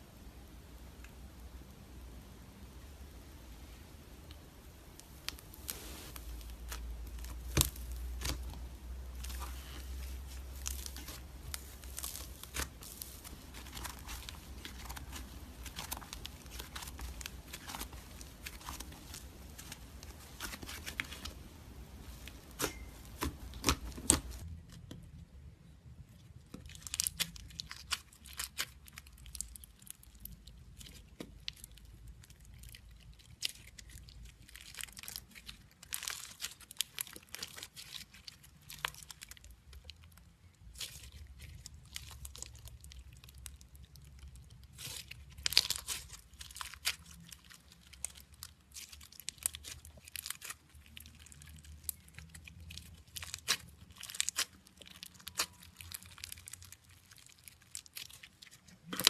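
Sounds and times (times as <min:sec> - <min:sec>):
slime crackling and popping: 0:04.3 - 0:25.0, 0:26.4 - 0:59.0.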